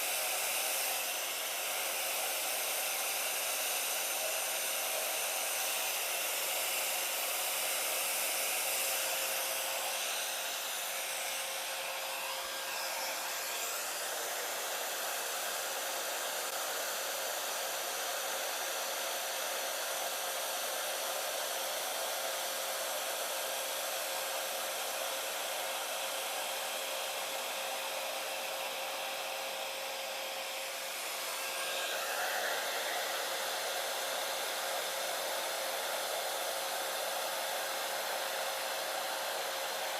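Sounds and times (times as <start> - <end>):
blow dryer running: 0.0 - 39.9.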